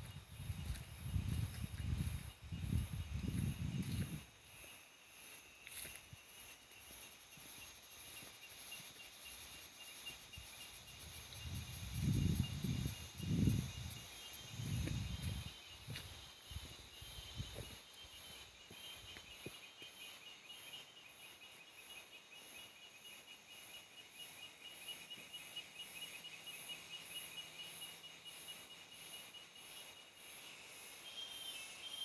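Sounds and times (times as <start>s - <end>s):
insects chirring in fast trills: 0.0s - 32.0s.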